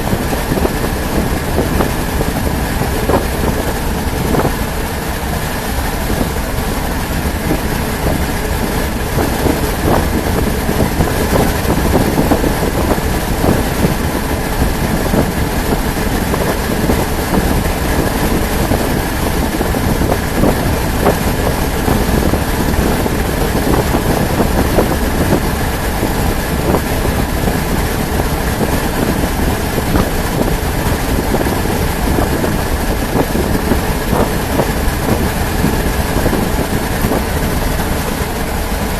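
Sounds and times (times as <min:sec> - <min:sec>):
vehicle rumbling in motion: 0:00.0 - 0:38.9.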